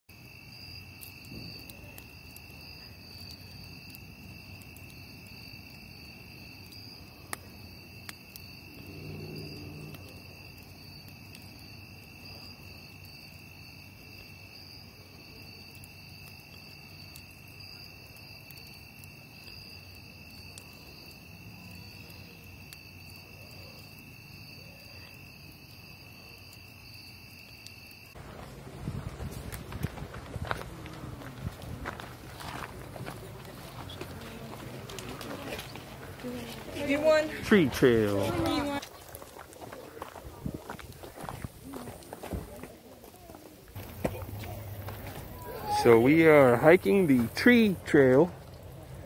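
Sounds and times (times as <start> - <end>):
campfire crackles and pops: 0.1 - 49.0
night insects chirring: 0.1 - 49.0.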